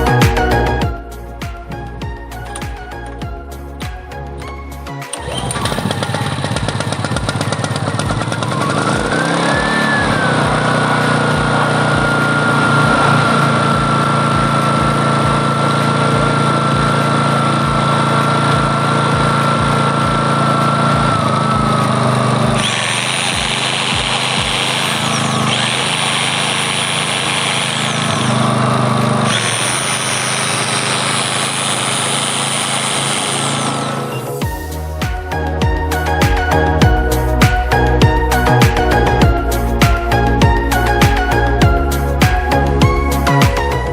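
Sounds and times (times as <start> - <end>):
small generator engine running: 1.6 - 43.9.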